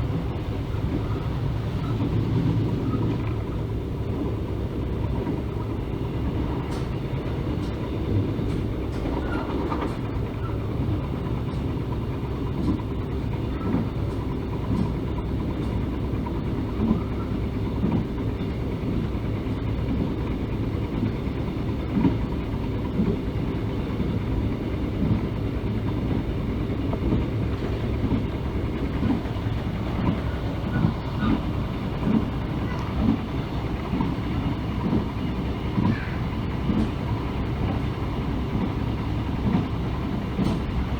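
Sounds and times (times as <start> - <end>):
train rumbling: 0.0 - 40.9
wheels clacking on rails: 0.0 - 40.9.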